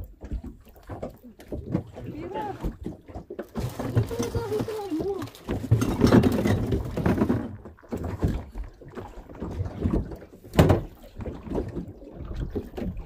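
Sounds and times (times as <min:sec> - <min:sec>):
water slapping against boat hull: 0:00.0 - 0:13.0.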